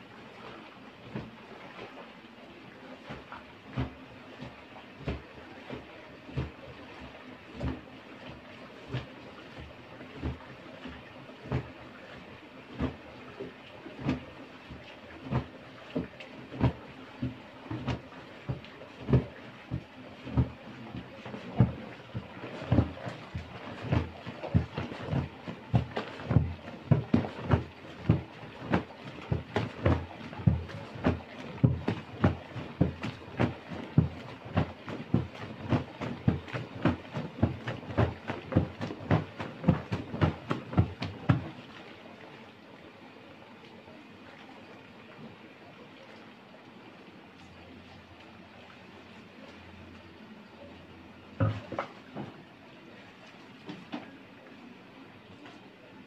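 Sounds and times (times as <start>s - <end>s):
mash sloshing in cloth filter: 0.0s - 42.8s, 51.1s - 54.2s.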